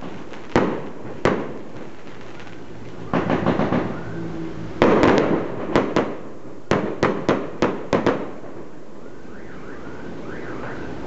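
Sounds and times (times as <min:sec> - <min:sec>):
fireworks bangs and cracks: 0:00.0 - 0:09.0.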